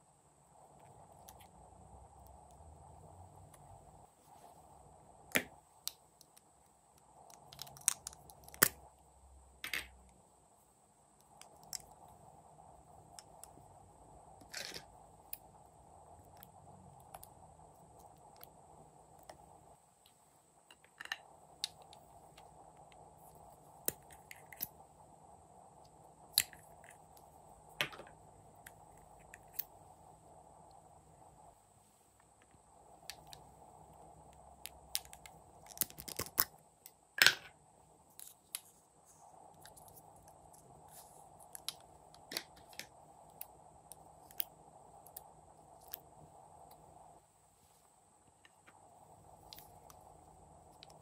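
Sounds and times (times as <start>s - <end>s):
faint hum: 0.0s - 51.0s
faint steady hiss: 0.0s - 51.0s.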